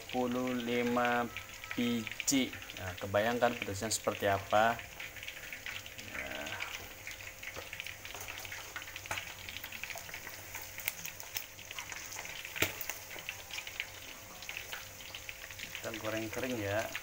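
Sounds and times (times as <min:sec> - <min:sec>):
chicken deep-frying in oil: 0:00.0 - 0:17.0
oil popping: 0:00.0 - 0:17.0.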